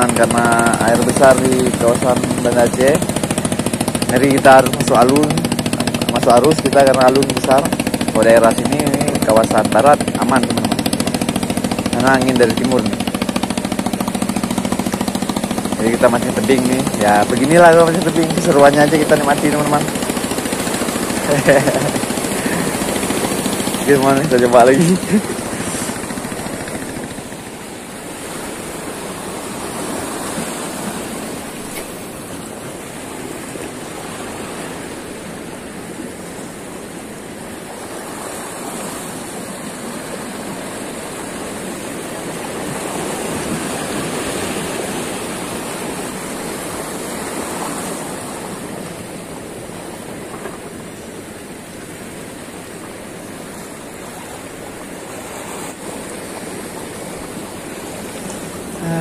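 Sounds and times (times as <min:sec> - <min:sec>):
waves lapping and splashing: 0:00.0 - 0:59.0.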